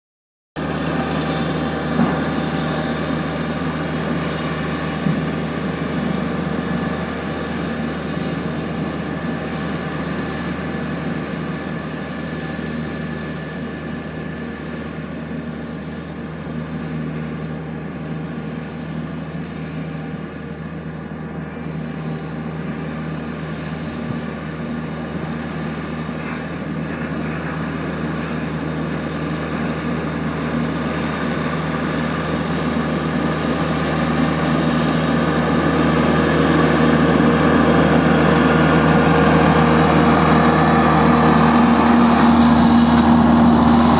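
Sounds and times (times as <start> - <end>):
road roller engine running: 0.6 - 43.9.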